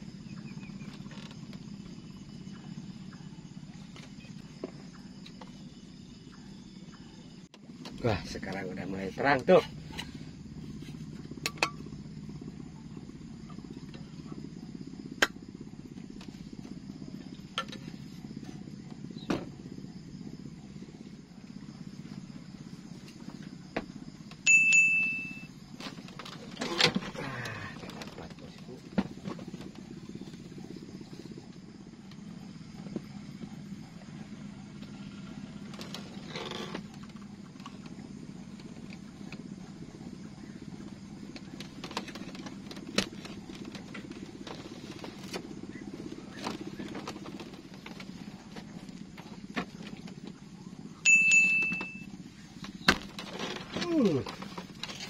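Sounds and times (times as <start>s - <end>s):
low throbbing drone: 0.0s - 24.5s, 25.4s - 55.0s
small engine running: 0.0s - 55.0s.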